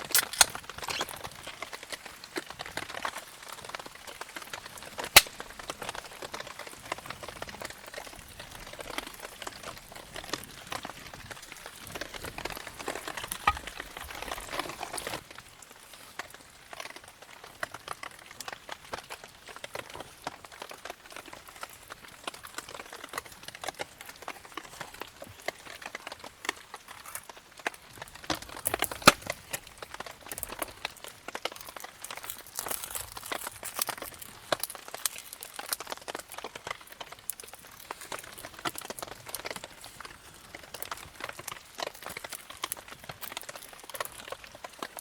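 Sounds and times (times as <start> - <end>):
sharp crack of fire: 0.0 - 15.4, 21.5 - 45.0
campfire crackling: 0.0 - 45.0.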